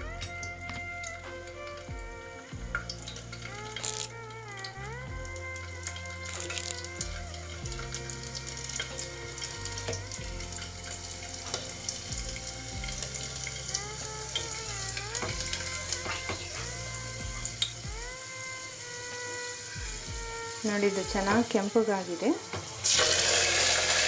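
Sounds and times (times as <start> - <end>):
garlic sizzling in hot oil: 0.0 - 24.0
oil popping: 0.0 - 24.0
quiet background music: 0.0 - 24.0.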